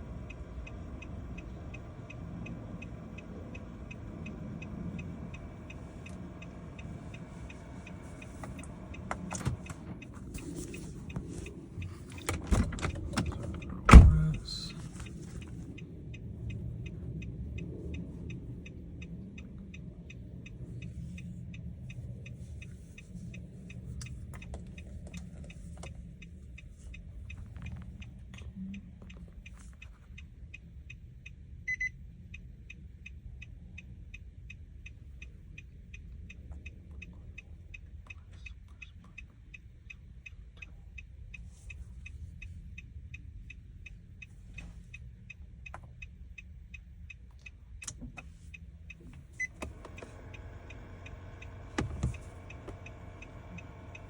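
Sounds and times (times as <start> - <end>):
low steady hum: 0.0 - 54.0
steady ticking: 0.0 - 54.0.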